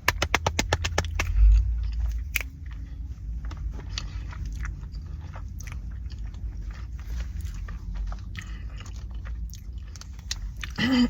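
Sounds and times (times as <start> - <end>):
person chewing food: 0.4 - 11.0.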